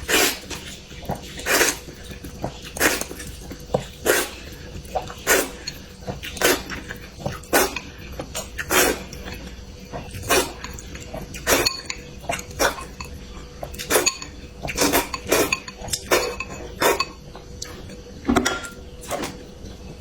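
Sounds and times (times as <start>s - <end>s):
utensils clinking against a dish: 0.1s - 9.5s, 10.1s - 17.8s, 18.4s - 19.4s.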